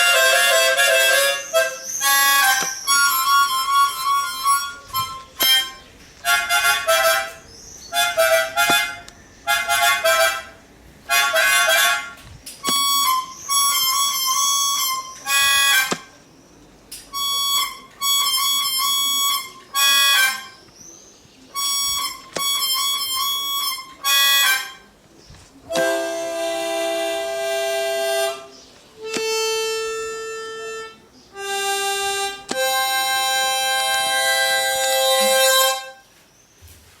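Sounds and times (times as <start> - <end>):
harmonica music: 0.0 - 16.2, 16.9 - 20.7, 21.4 - 25.0, 25.6 - 36.2.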